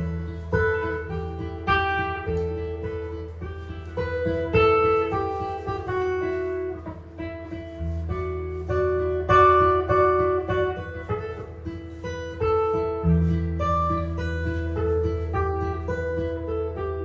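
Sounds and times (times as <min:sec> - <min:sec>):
jazz guitar solo: 0:00.0 - 0:17.0.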